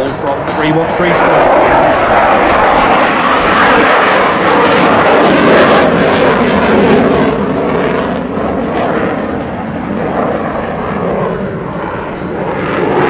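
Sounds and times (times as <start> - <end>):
fighter jet roar: 0.0 - 13.0.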